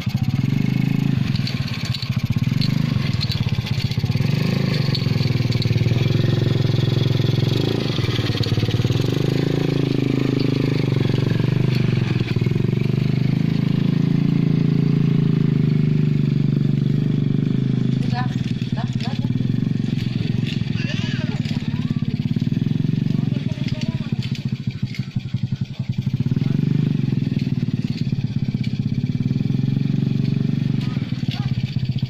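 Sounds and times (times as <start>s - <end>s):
small motorcycle engine running: 0.0s - 32.0s.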